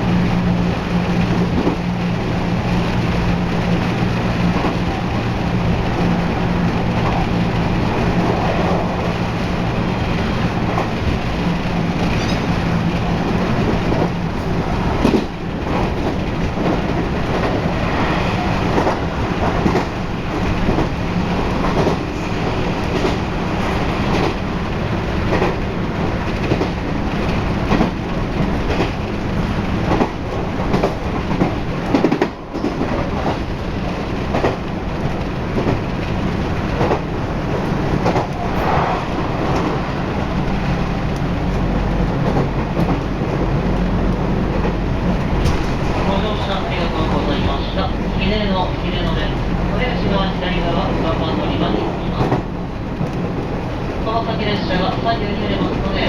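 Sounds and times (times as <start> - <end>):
rail joint clacks: 0.0 - 56.0
train wheel and track rumble: 0.0 - 56.0.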